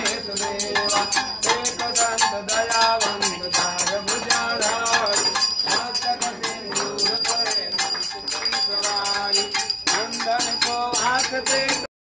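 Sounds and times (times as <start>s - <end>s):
bell rung rapidly: 0.0s - 11.9s
devotional singing: 0.0s - 11.9s.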